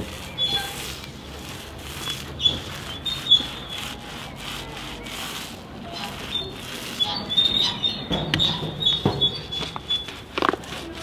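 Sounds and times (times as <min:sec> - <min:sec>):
paint roller on concrete wall: 0:00.0 - 0:11.0.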